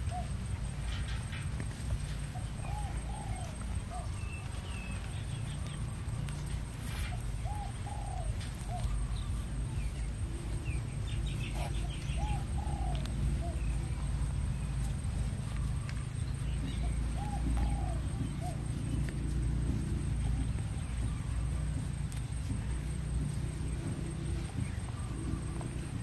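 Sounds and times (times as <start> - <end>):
dove cooing: 0.0 - 26.0
small birds chirping: 0.0 - 26.0
steady low rumble: 0.0 - 26.0.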